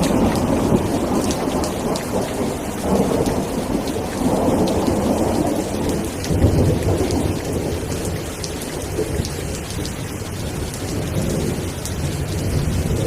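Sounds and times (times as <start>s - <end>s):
low rumbling thunder: 0.0s - 13.0s
rain pattering: 0.0s - 13.0s.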